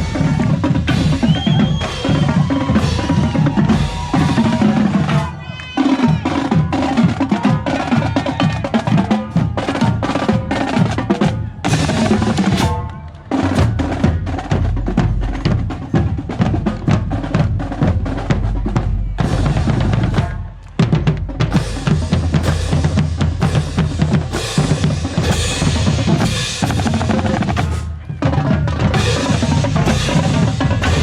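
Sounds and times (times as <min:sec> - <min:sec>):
marching drumline: 0:00.0 - 0:31.0.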